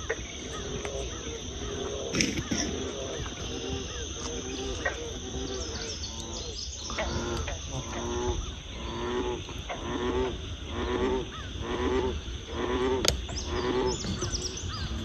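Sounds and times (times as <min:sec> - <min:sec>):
faint birds chirping: 0:00.0 - 0:15.0
frogs calling: 0:00.0 - 0:15.0.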